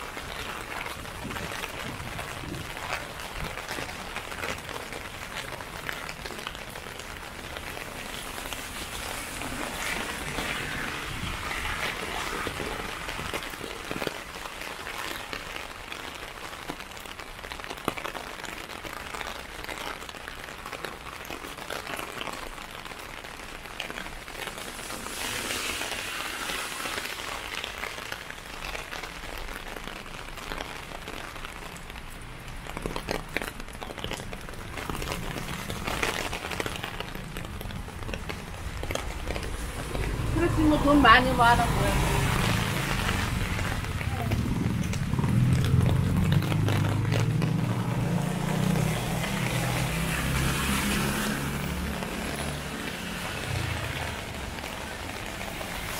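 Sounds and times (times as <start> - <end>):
rain pattering on umbrella: 0.0 - 55.9.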